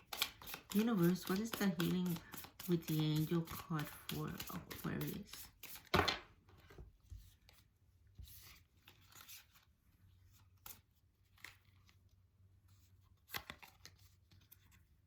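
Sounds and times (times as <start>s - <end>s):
cards rustling: 0.0s - 6.2s, 7.2s - 15.0s.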